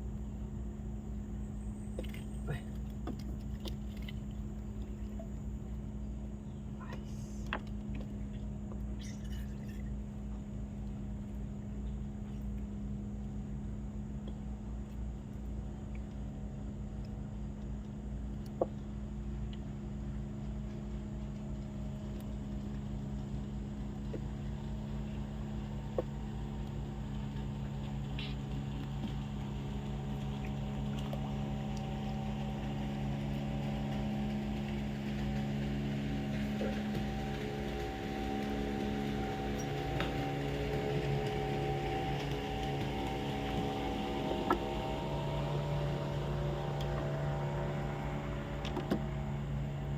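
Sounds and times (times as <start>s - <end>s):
motorboat engine running: 0.0s - 49.9s.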